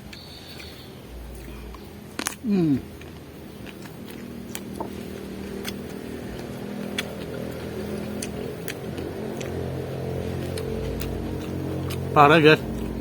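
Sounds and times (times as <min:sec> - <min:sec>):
engine hum: 0:00.0 - 0:13.0
raw vegetables crunching: 0:00.0 - 0:13.0.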